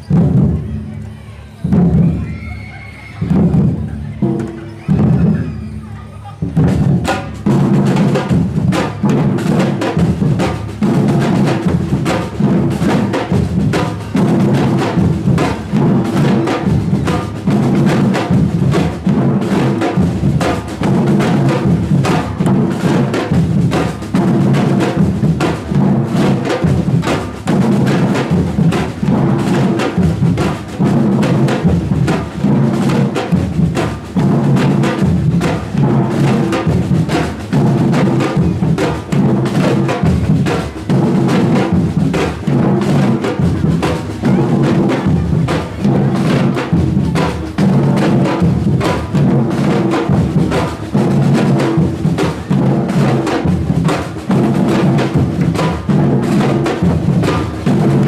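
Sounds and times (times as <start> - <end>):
samba drum band playing: 0.0 - 58.0.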